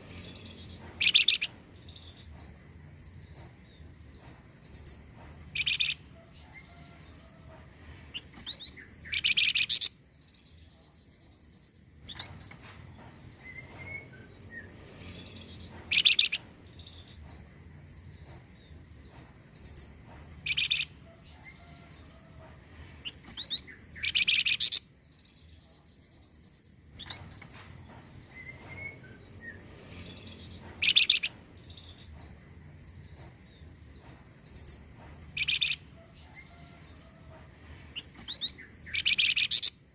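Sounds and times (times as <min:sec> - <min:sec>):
bird chirping: 0:00.0 - 0:07.3, 0:08.1 - 0:12.6, 0:13.2 - 0:17.3, 0:17.9 - 0:22.1, 0:23.0 - 0:37.2, 0:38.0 - 0:39.9.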